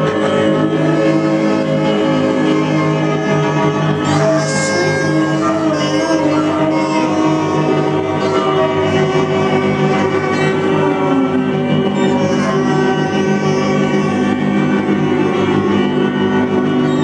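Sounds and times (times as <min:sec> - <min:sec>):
prepared guitar and saxophones drone: 0:00.0 - 0:17.0.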